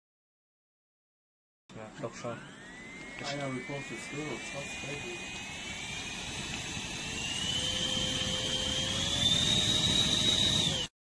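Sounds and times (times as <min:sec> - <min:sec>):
handheld fan motor whining: 0:01.8 - 0:11.0.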